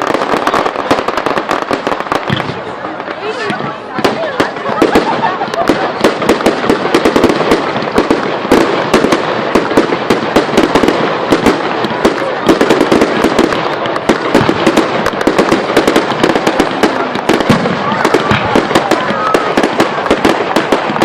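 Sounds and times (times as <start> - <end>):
fireworks bangs and cracks: 0.0 - 21.0
fireworks crackle: 0.0 - 21.0.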